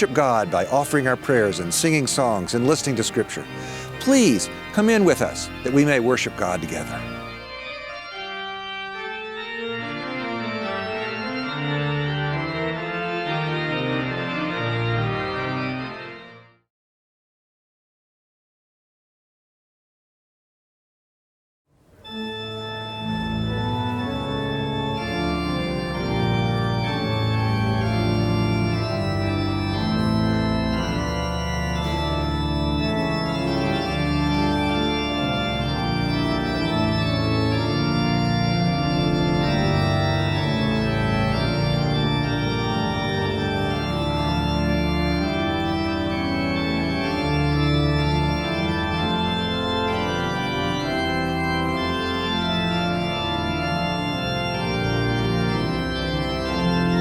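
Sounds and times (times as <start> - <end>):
organ playing sustained chords: 0.0 - 16.6, 21.8 - 57.0.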